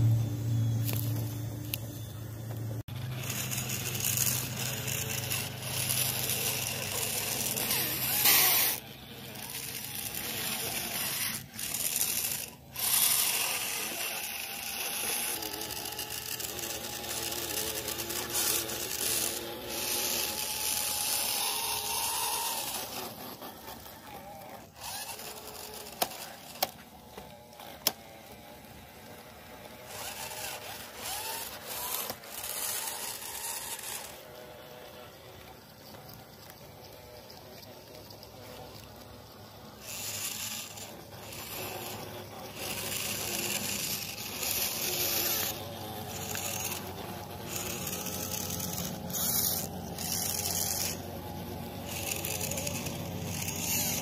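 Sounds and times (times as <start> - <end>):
low motor hum: 0.0 - 54.0
toy bulldozer motors whining: 0.0 - 54.0.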